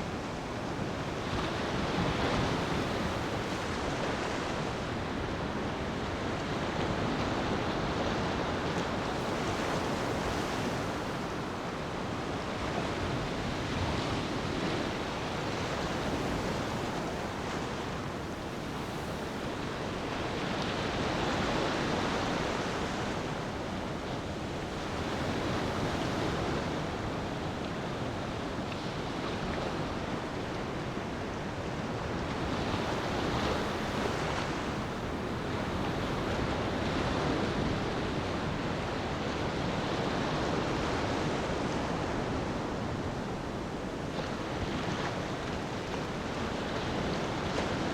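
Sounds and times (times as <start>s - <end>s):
sea waves washing onto beach: 0.0s - 47.9s.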